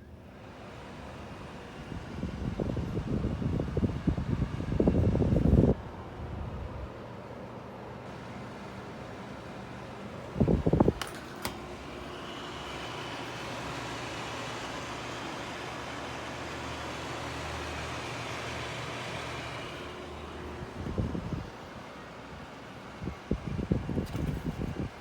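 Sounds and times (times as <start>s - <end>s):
air conditioner fan running: 0.0s - 25.0s.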